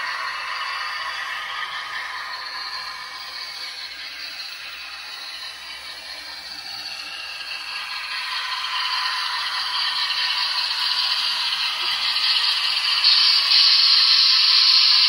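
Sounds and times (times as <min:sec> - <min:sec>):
model train motor whirring: 0:00.0 - 0:15.0
wheels rattling on rails: 0:00.0 - 0:15.0.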